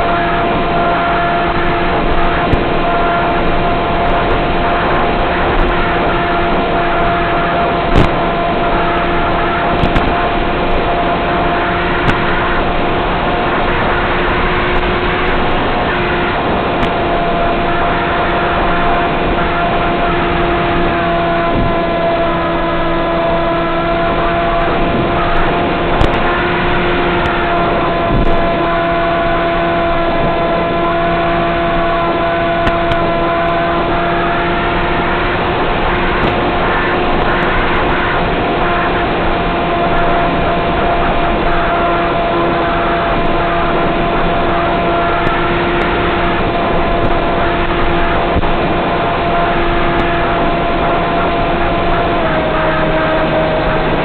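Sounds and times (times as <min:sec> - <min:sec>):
electric motor hum-whine: 0:00.0 - 0:54.0.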